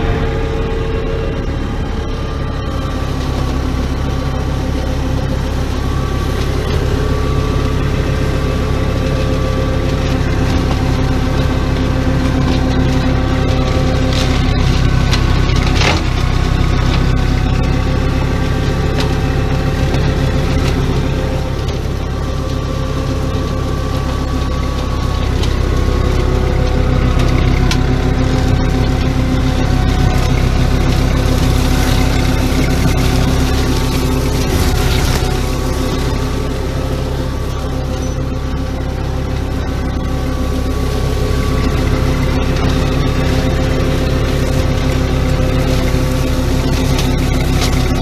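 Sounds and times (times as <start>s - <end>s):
flail mower shredding grass: 0.0s - 48.0s
tractor engine running: 0.0s - 48.0s
twigs cracking: 6.2s - 48.0s.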